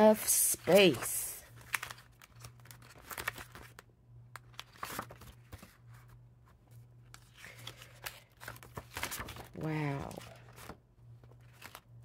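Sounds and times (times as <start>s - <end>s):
paper and plastic rustling: 0.1s - 6.2s, 7.1s - 12.0s.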